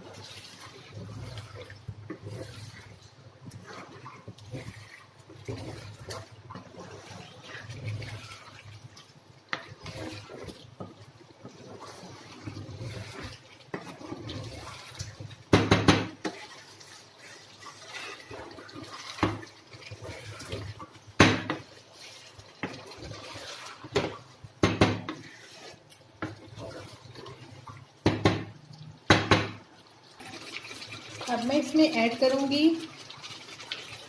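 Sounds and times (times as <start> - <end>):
wooden spatula scraping frying pan: 0.0 - 29.6
food sizzling: 0.0 - 34.0.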